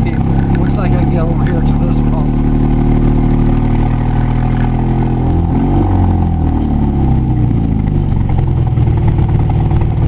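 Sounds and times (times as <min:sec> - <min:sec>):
vehicle engine at low speed: 0:00.0 - 0:10.0.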